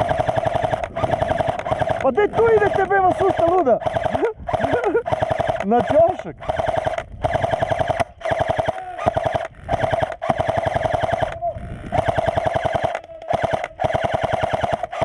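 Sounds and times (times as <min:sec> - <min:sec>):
airsoft rifle firing bursts: 0:00.0 - 0:15.0.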